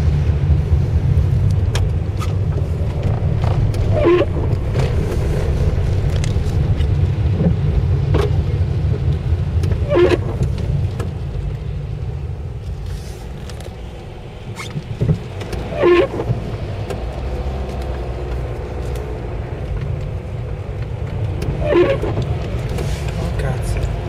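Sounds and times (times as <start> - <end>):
engine and tyres rumbling: 0.0 - 24.0
windscreen wipers squeaking: 0.7 - 24.0.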